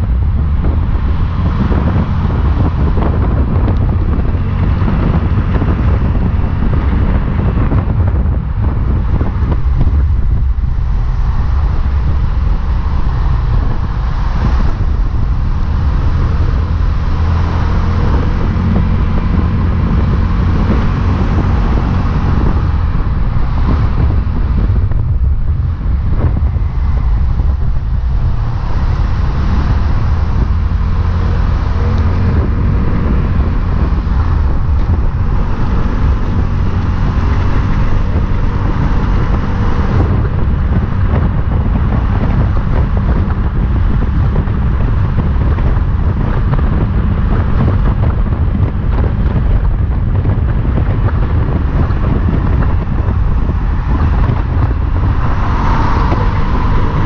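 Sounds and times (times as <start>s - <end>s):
low engine drone: 0.0s - 57.0s
road and wind noise: 0.0s - 57.0s.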